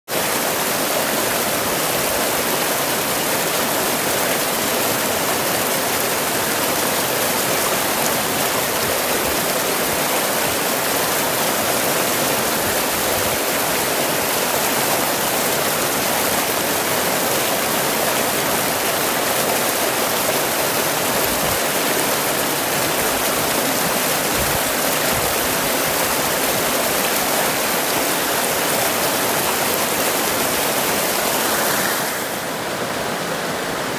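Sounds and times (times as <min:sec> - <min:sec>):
stream rushing over rocks: 0:00.1 - 0:33.9.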